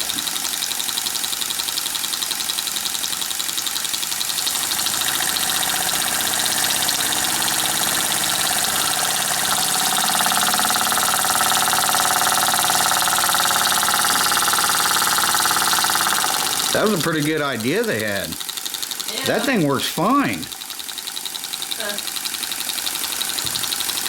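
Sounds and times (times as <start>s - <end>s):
toy steam engine chuffing: 0.0s - 24.0s.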